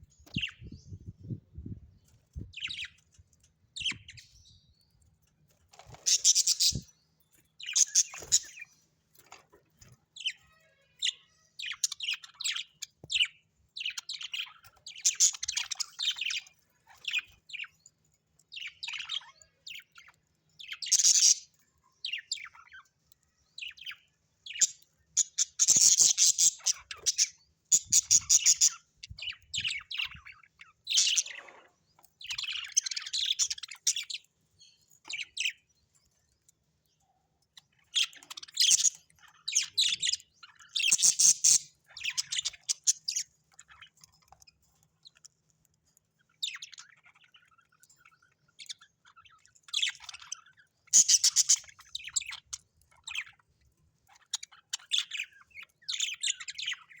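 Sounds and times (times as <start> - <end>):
budgerigars chirping and chattering: 0.0 - 1.4, 2.1 - 4.7, 5.4 - 36.8, 37.5 - 57.0.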